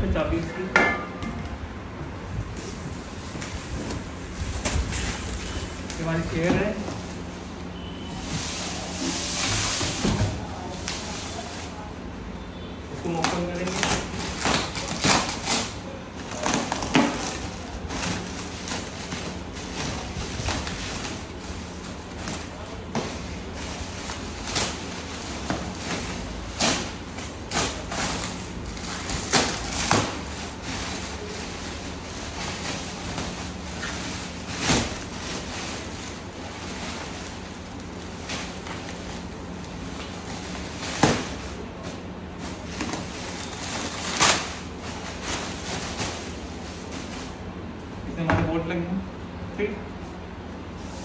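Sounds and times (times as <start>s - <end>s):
bubble wrap crinkling: 2.5s - 12.0s, 13.0s - 47.5s.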